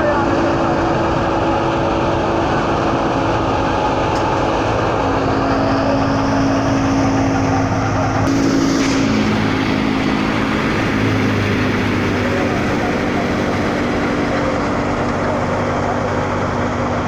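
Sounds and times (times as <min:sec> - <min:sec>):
thresher running with a hum: 0:00.0 - 0:17.0.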